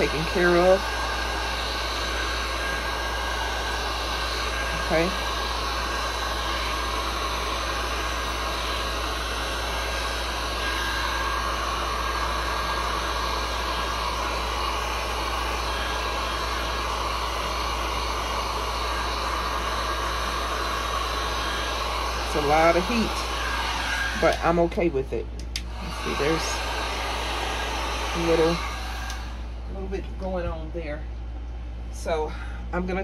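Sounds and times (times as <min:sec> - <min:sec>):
heat gun blowing hot air: 0:00.0 - 0:29.6.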